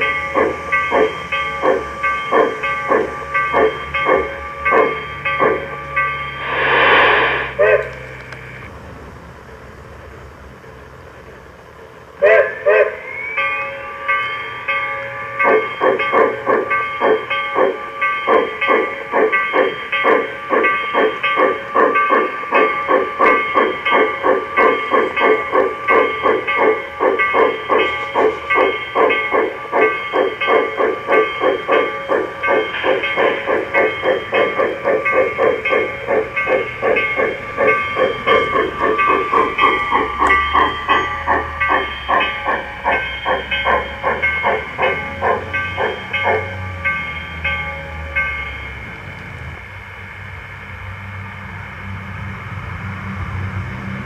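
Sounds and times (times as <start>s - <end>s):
model steam locomotive chuffing: 0.0s - 54.0s.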